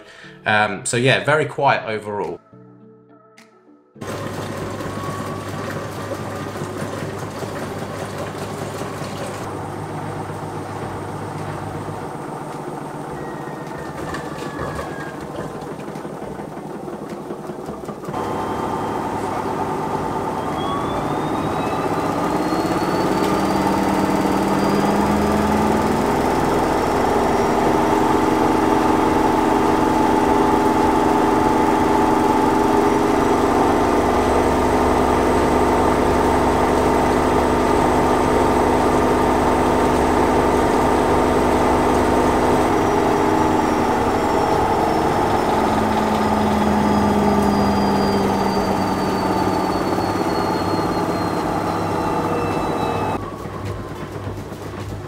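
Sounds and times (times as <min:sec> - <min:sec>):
washing machine spinning: 0:04.0 - 0:55.0.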